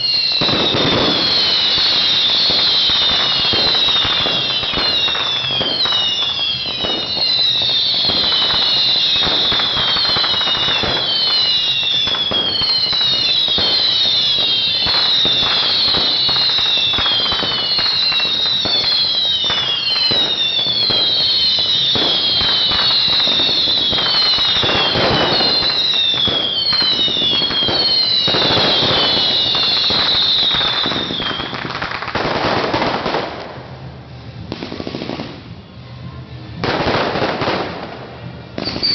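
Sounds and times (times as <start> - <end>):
firework cracks and bangs: 0.0 - 35.6, 36.6 - 38.9
whistling fireworks: 0.0 - 38.9.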